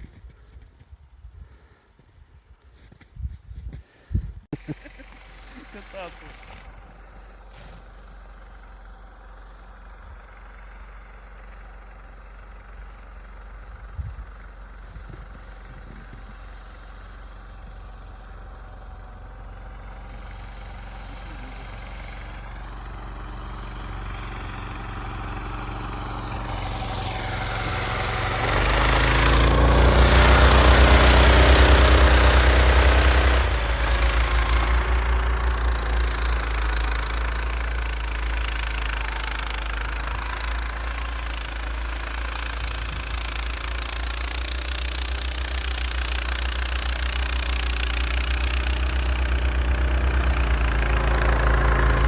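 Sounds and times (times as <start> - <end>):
vehicle engine passing: 4.6 - 52.0.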